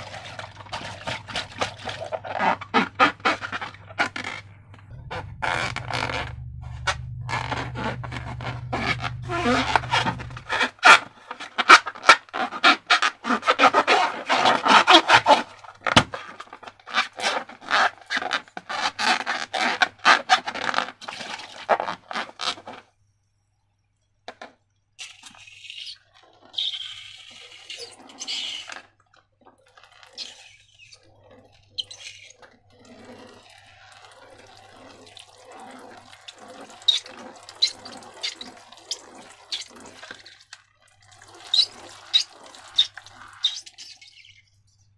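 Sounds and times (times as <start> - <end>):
wet slime squelching: 0.0 - 22.8, 25.0 - 44.9.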